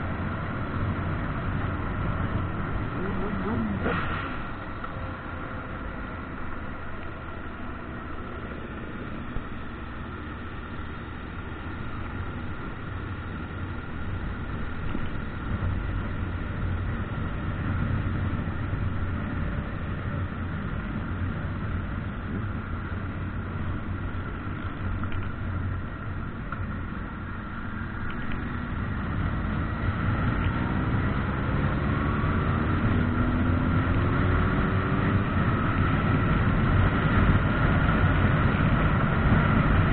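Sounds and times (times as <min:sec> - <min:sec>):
low rumble of wind: 0:00.0 - 0:39.9.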